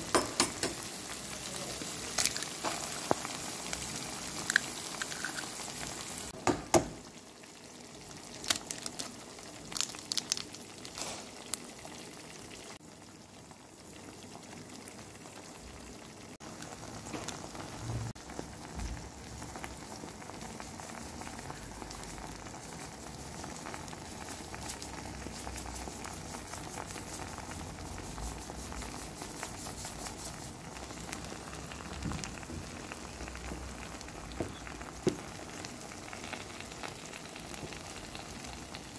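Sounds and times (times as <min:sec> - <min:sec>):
eggs sizzling in a frying pan: 0:00.0 - 0:38.9.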